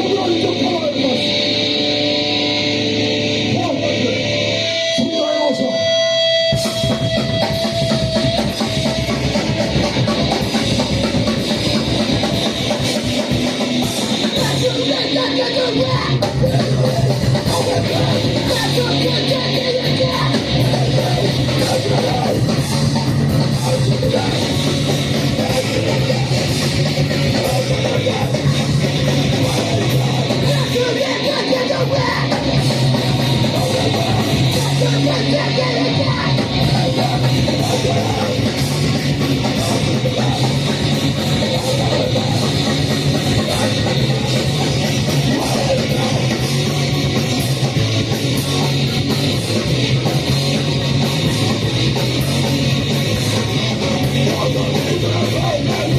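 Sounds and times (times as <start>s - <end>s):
live band playing heavy music: 0.0s - 55.9s.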